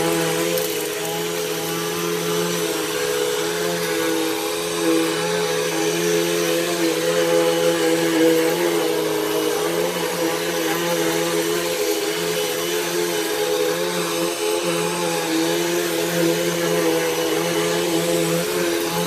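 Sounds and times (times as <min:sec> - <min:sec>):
upright vacuum cleaner running: 0:00.0 - 0:19.0.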